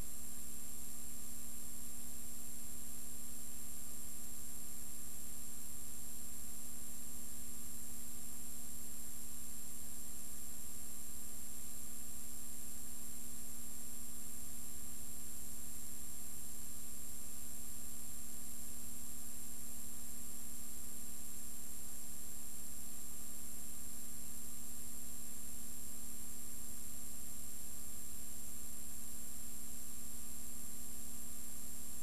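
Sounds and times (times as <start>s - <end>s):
faint high whine: 0.0s - 32.0s.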